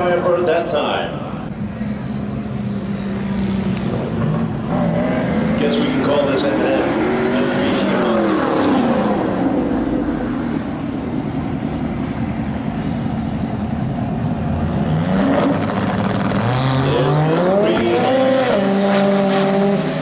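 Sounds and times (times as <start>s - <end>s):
car engines running: 0.0s - 20.0s
car accelerating hard: 3.1s - 20.0s.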